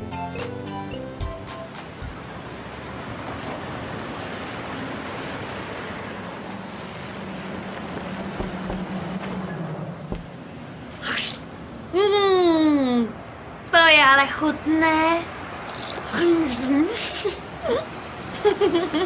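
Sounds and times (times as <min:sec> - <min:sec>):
rushing outdoor background noise: 0:00.0 - 0:19.0.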